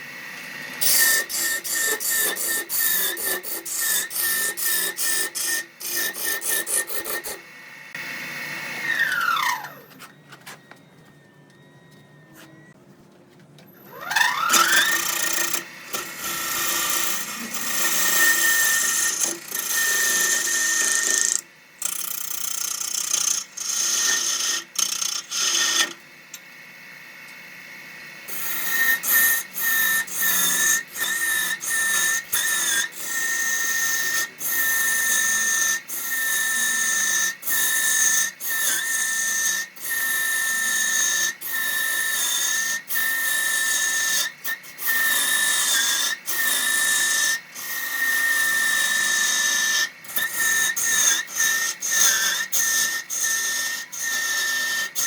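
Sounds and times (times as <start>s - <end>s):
wood lathe whining: 0.0s - 12.8s, 13.7s - 55.0s.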